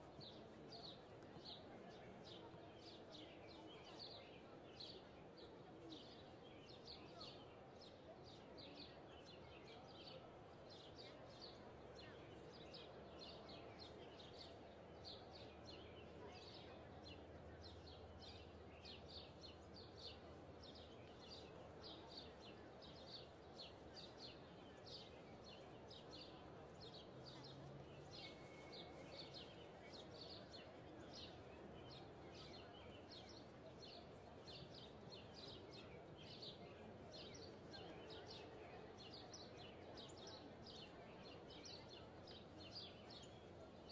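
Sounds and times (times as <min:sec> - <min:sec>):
faint background noise: 0:00.0 - 0:43.9.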